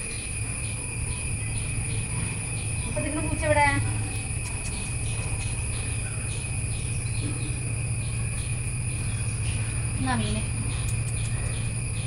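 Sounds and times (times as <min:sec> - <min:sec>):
low hum: 0:00.0 - 0:12.0
pulsing insect chirring: 0:00.0 - 0:12.0.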